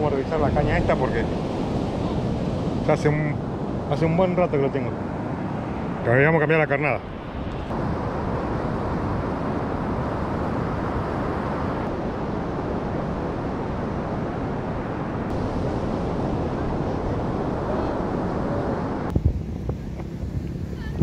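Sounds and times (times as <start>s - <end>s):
breaking surf: 0.0s - 19.2s
wind rumbling on microphone: 0.0s - 21.0s.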